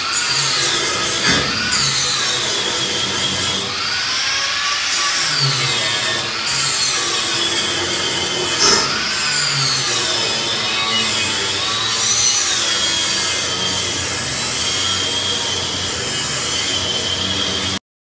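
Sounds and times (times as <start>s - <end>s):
grinder cutting steel: 0.0s - 17.8s.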